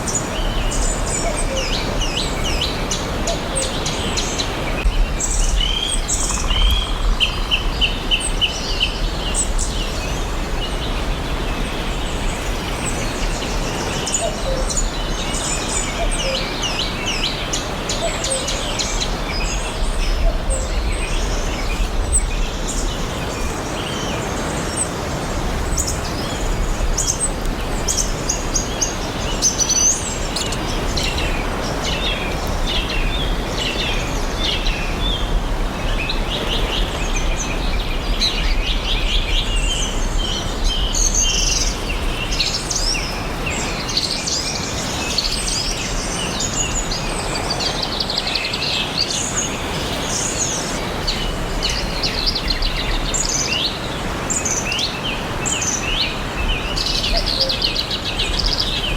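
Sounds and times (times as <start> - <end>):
birds chirping and singing: 0.0 - 58.9.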